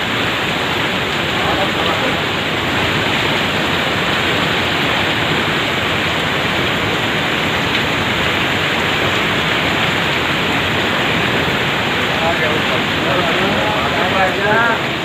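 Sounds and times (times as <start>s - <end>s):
heavy storm rain: 0.0s - 15.0s.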